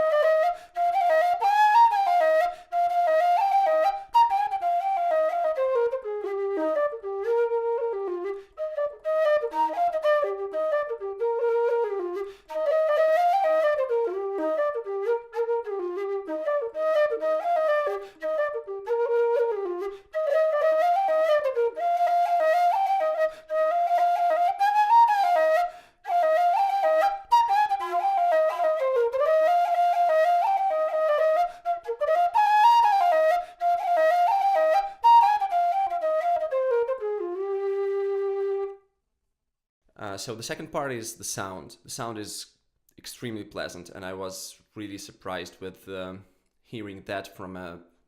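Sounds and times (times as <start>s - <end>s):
low whistle melody: 0.0s - 38.9s.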